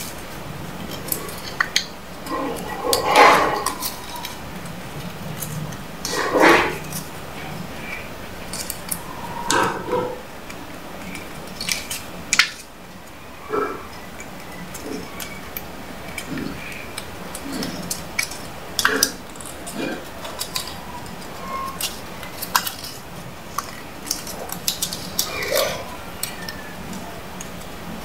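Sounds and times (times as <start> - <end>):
banknote crinkling and rustling: 0.0 - 9.4, 10.4 - 28.0.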